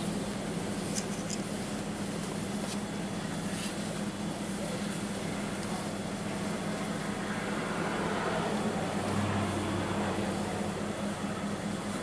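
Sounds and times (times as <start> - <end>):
pickup truck approaching: 0.0 - 12.0.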